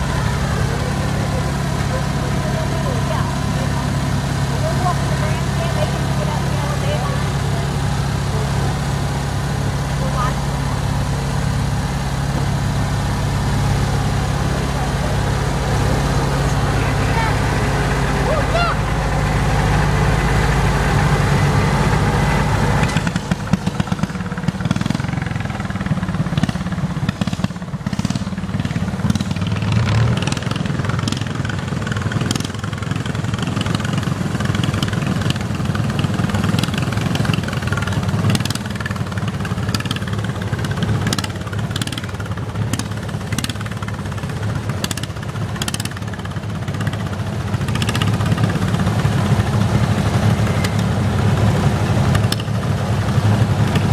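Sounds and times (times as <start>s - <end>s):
garden tractor engine running: 0.0s - 53.9s.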